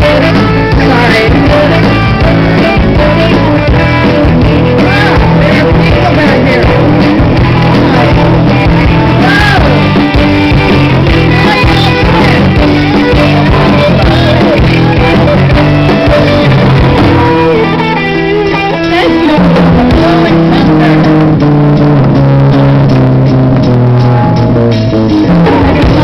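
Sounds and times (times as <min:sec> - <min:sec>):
live rock band playing: 0:00.0 - 0:26.0
sliding guitar lines: 0:00.0 - 0:26.0.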